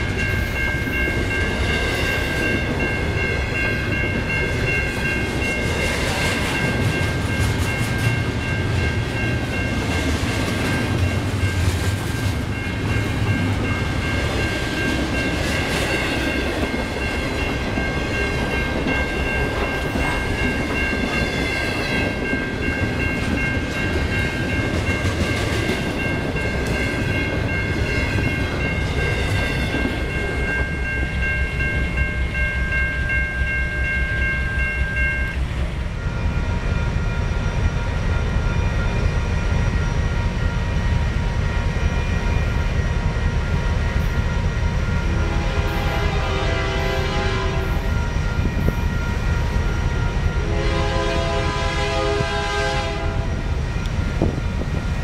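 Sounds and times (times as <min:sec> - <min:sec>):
crossing warning bell ringing: 0:00.0 - 0:55.0
freight train rumbling past: 0:00.0 - 0:55.0.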